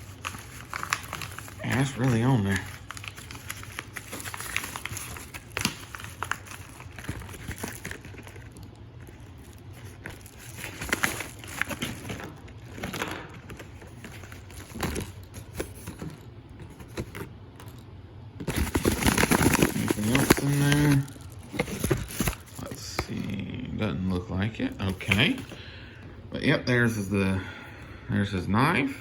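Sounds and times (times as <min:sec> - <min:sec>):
packaging crinkling and rustling: 0:00.0 - 0:17.8, 0:18.4 - 0:23.4, 0:24.2 - 0:25.8.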